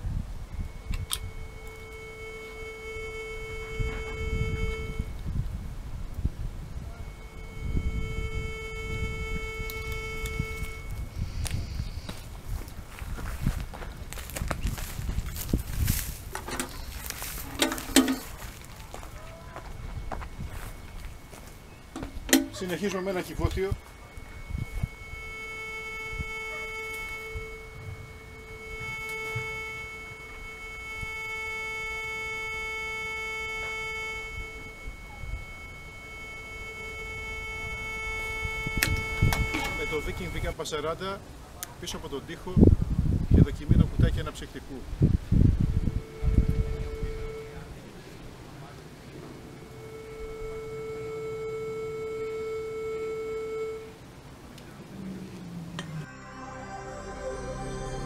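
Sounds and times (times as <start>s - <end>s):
metal detector steady tone: 0.0s - 5.4s, 6.1s - 40.6s, 45.2s - 54.0s
faint low detector tone: 0.0s - 40.6s, 43.3s - 58.0s.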